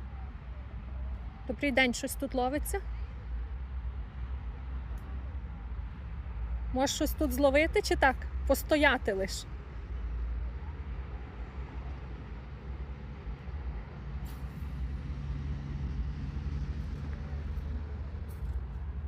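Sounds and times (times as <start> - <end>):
distant road traffic rumble: 0.0 - 19.0
faint engine hum: 0.0 - 19.0.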